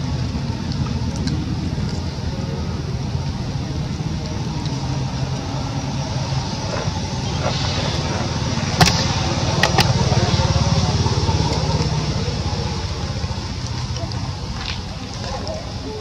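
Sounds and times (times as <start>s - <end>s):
faint engine hum: 0.0s - 16.0s
road traffic rumble: 0.0s - 16.0s.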